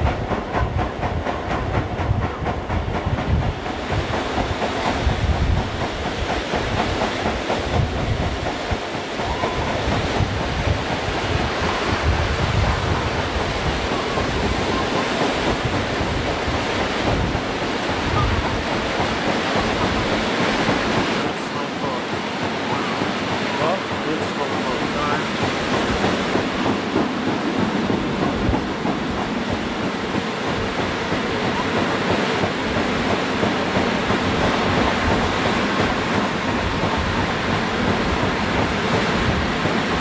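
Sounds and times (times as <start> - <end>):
wind buffeting microphone: 0.0 - 21.4, 25.0 - 40.0
train wheels rumbling on rails: 0.0 - 40.0.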